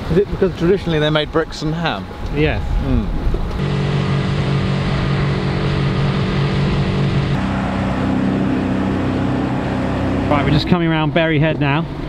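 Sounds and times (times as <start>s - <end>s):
water noise: 0.0s - 12.0s
wind: 0.0s - 12.0s
outboard motor running: 0.3s - 12.0s.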